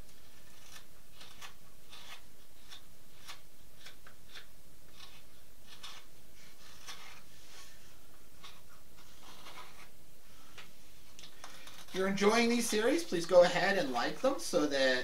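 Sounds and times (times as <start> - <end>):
knife scraping wood: 0.0 - 10.7, 11.4 - 13.1.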